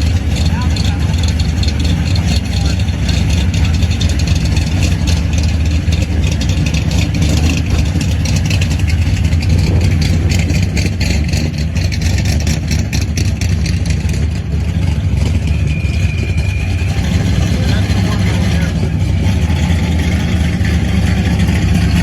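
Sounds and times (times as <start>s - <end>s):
hot-rod car engine rumbling: 0.0s - 22.0s.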